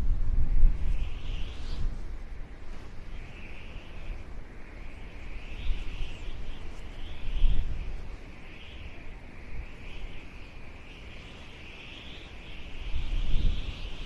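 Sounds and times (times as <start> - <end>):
wind gusting on microphone: 0.0 - 14.0
insects chorus: 0.7 - 1.9, 3.0 - 14.0.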